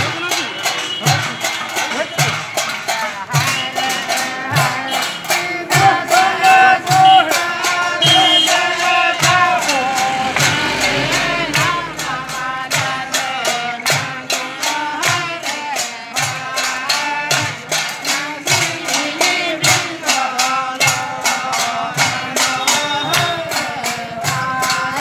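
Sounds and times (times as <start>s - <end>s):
gourd rattles beat: 0.0s - 25.0s
men singing in chorus: 0.0s - 25.0s.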